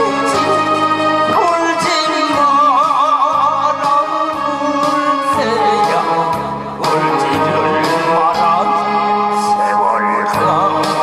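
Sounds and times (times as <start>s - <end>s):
accompaniment track with low beat: 0.0s - 11.0s
man singing into microphone: 0.0s - 11.0s.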